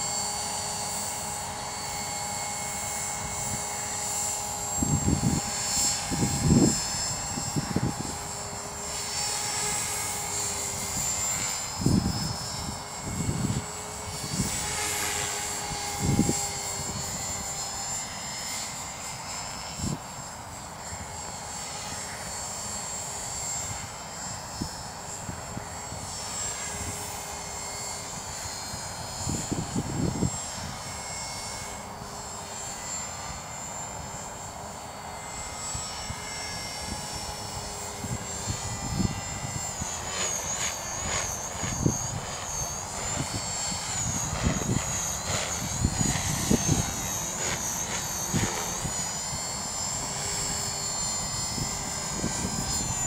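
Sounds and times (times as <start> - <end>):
rc helicopter whine: 0.0 - 53.0.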